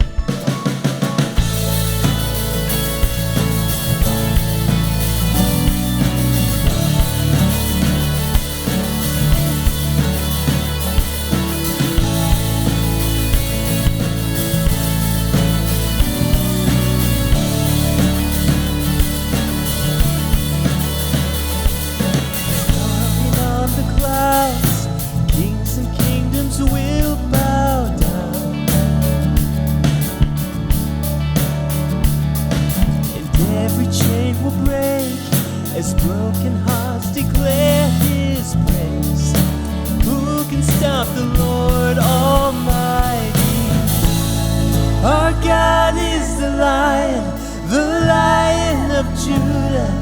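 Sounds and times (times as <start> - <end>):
person singing: 0.0 - 30.7, 33.0 - 50.0
worship song played by band: 0.0 - 50.0.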